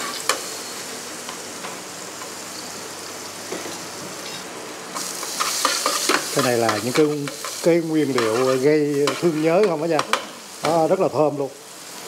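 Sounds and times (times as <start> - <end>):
butter sizzling in pan: 0.0 - 12.0.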